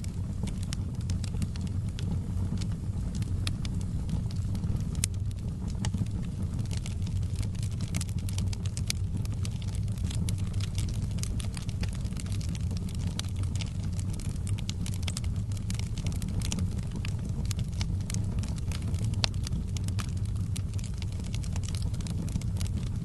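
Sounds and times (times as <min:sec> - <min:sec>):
fire crackling and popping: 0:00.0 - 0:23.0
fire flames rumbling: 0:00.0 - 0:23.0.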